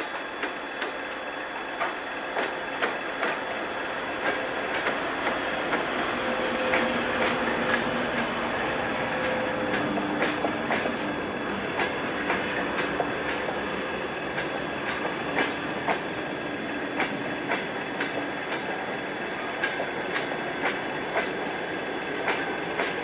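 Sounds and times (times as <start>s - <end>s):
faint steady squeal: 0.0s - 23.0s
train wheels clacking over rail joints: 0.0s - 23.0s.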